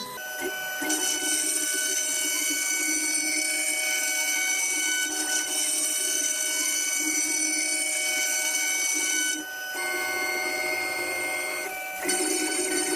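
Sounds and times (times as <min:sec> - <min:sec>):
router spindle high-pitched whine: 0:00.0 - 0:12.9.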